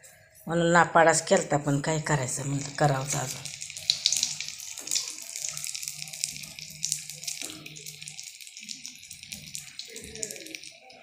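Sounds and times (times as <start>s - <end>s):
sweets deep-frying in oil: 0.0s - 11.0s.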